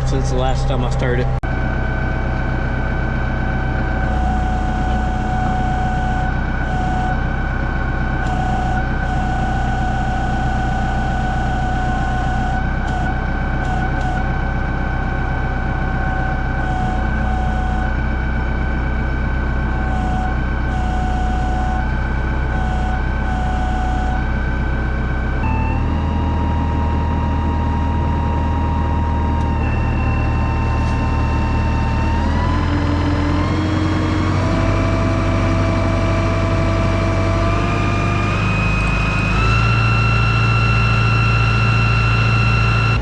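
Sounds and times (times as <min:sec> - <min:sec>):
tractor engine droning: 0:00.0 - 0:43.0.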